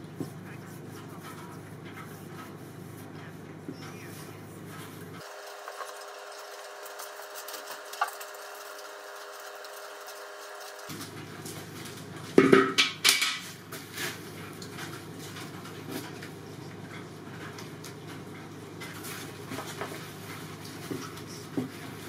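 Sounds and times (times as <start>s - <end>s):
low workshop hum: 0.0s - 22.0s.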